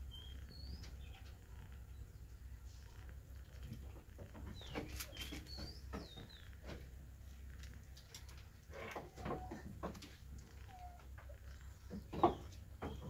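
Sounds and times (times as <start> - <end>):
rabbits nibbling: 0.0 - 13.0
small birds chirping: 0.0 - 13.0.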